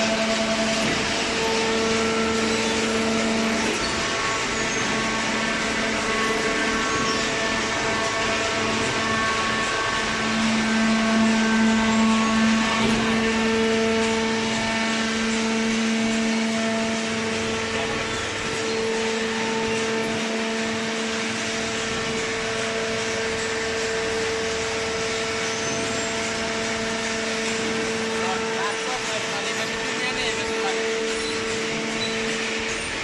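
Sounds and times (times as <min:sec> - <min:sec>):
hydraulic pump motor humming: 0:00.0 - 0:33.0.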